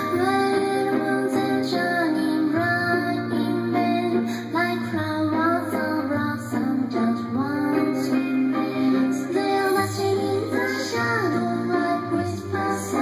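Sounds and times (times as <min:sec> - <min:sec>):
pop song with female vocals: 0:00.0 - 0:13.0.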